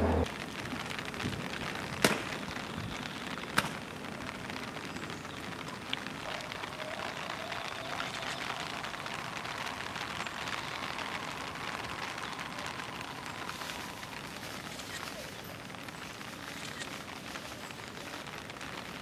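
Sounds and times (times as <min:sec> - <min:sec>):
rain pattering: 0:00.1 - 0:19.0.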